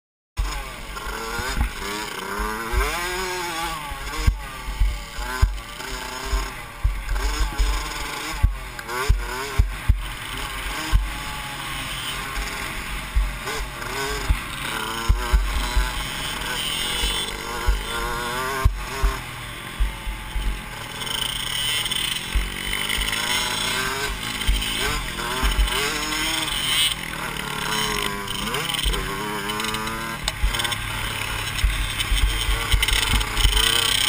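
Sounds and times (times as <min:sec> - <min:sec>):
motocross bike engine revving: 0:00.4 - 0:34.0.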